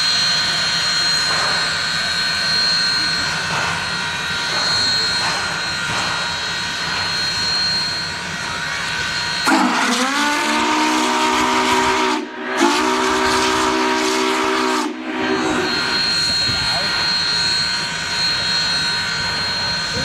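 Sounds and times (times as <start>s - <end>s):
steam whistle blasts: 0.0s - 20.0s.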